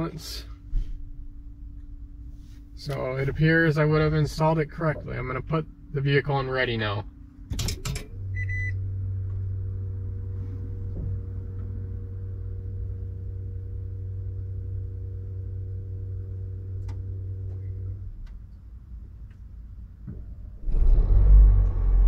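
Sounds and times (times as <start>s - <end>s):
hybrid car system humming: 0.0s - 22.0s.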